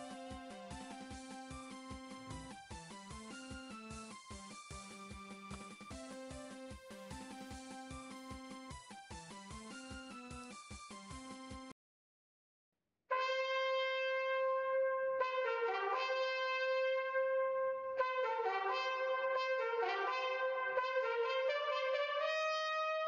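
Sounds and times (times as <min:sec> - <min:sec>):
brass background music: 0:00.0 - 0:11.7, 0:13.1 - 0:23.0.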